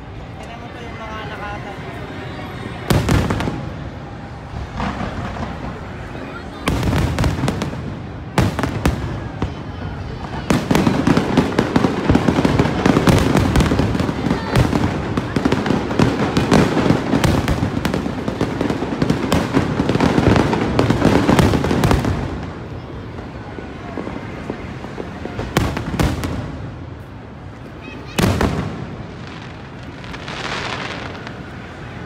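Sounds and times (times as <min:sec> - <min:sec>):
firework crackle: 0:00.0 - 0:32.0.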